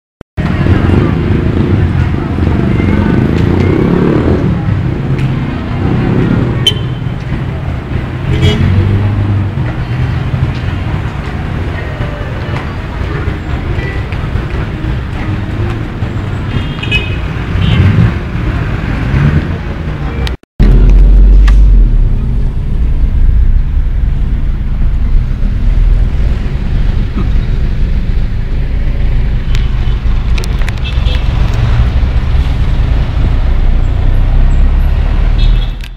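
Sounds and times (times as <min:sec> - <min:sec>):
road noise: 0:00.4 - 0:35.9
traffic engines droning: 0:00.4 - 0:35.9.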